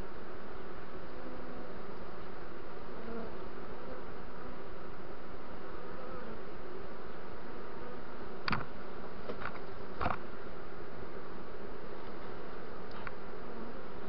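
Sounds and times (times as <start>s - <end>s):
honeybee swarm buzzing: 0.0s - 14.0s.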